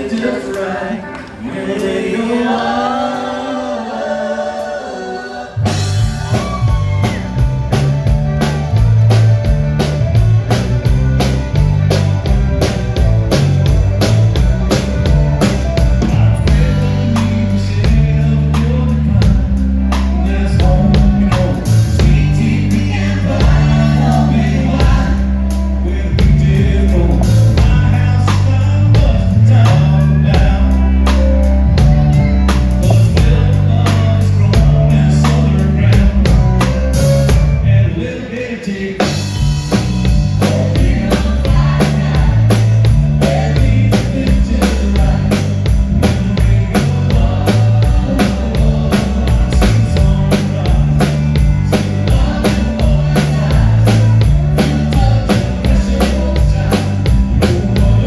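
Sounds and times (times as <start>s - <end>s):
sung vocal harmonies: 0.0s - 9.1s, 12.6s - 58.0s
drum kit and bass: 5.6s - 38.0s, 38.9s - 58.0s
live country-rock band: 5.6s - 58.0s.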